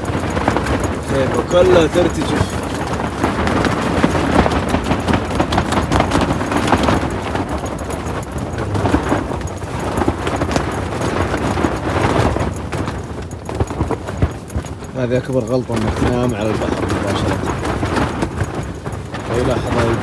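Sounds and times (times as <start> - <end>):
gusting wind: 0.0 - 20.0
tent fabric flapping: 0.0 - 20.0.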